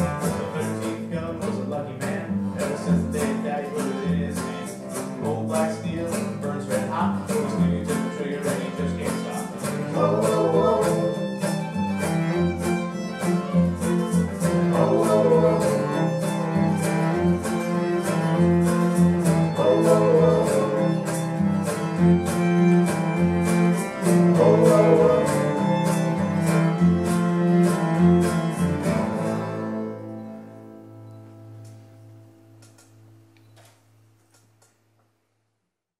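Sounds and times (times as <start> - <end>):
acoustic string band playing: 0.0 - 32.8
acoustic bass guitar: 0.0 - 34.2.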